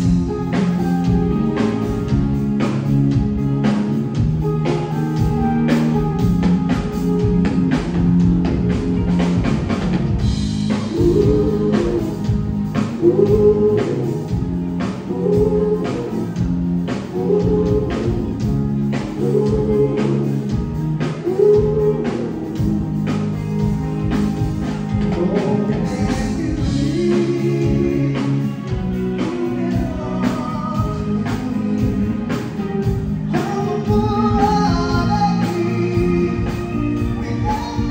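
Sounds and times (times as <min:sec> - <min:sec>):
bass and drums groove: 0:00.0 - 0:37.9.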